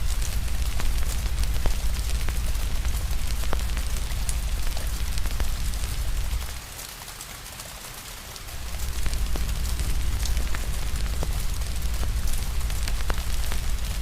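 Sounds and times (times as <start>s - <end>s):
low rumble: 0.0s - 6.6s, 8.5s - 14.0s
rain hiss: 0.0s - 14.0s
wood fire crackling: 0.0s - 14.0s.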